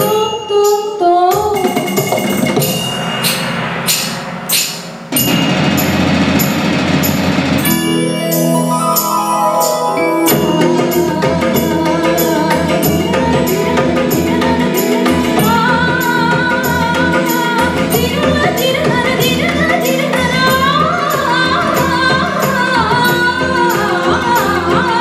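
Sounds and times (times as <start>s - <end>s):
drum and cymbal hits: 0.0s - 25.0s
live band playing: 0.0s - 25.0s.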